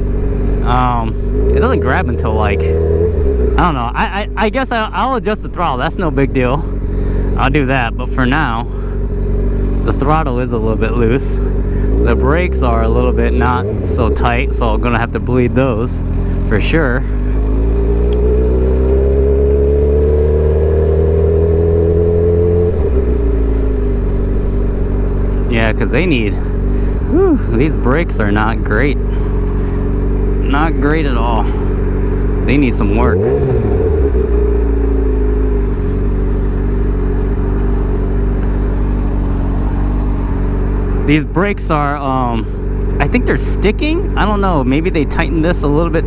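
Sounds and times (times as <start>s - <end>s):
motorcycle engine under throttle: 0.0s - 46.0s.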